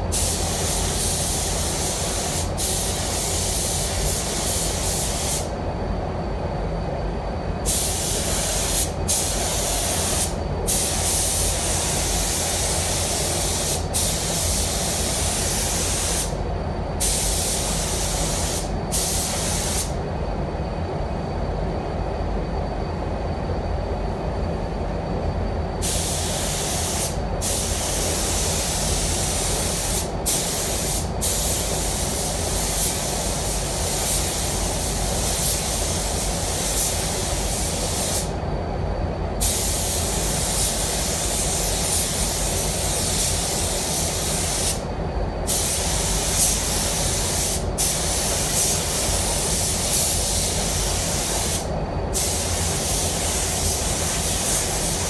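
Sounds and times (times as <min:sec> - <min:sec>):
spray gun hissing: 0:00.0 - 0:05.5, 0:07.6 - 0:16.4, 0:17.0 - 0:20.0, 0:25.8 - 0:38.3, 0:39.4 - 0:44.9, 0:45.5 - 0:55.0
ventilation fans rumbling: 0:00.0 - 0:55.0.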